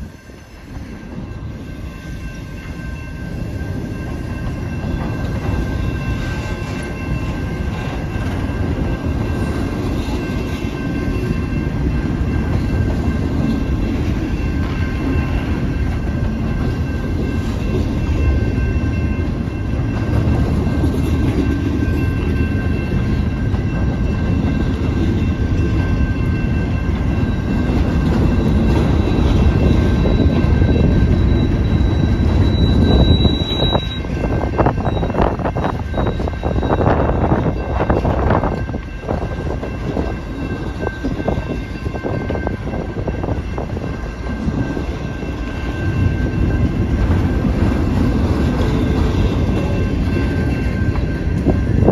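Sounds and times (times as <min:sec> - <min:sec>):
train wheels rumbling on rail: 0:00.0 - 0:51.9.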